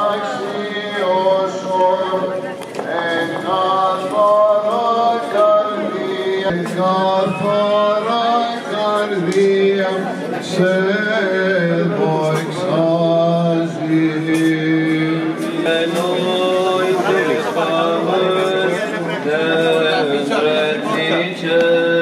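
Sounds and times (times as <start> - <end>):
men chanting a hymn: 0.0 - 22.0.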